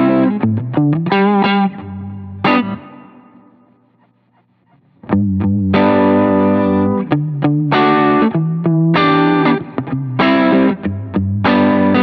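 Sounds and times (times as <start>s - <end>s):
electric guitar with vibrato effect: 0.0s - 12.0s.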